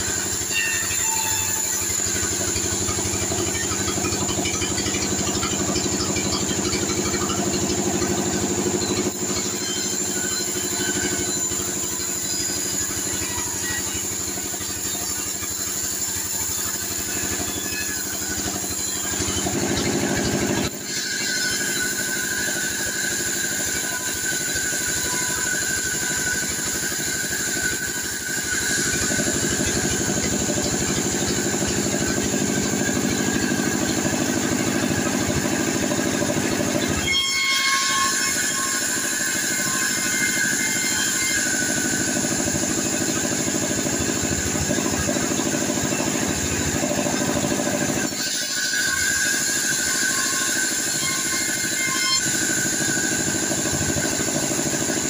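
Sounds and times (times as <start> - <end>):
band saw cutting wood: 0.0 - 55.0
high whine: 0.0 - 55.0.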